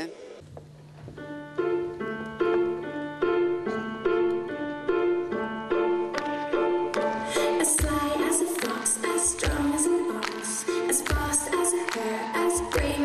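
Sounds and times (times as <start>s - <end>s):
piano notes: 0.8s - 13.0s.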